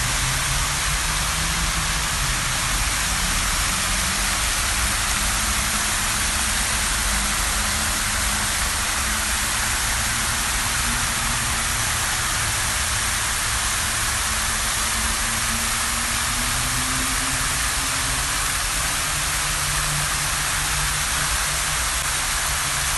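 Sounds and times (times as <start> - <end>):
fountain water splashing: 0.0 - 22.9.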